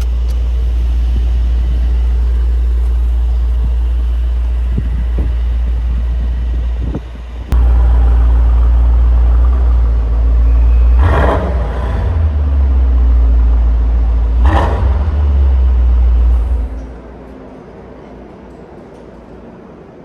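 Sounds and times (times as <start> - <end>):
car exhaust droning: 0.0 - 16.9.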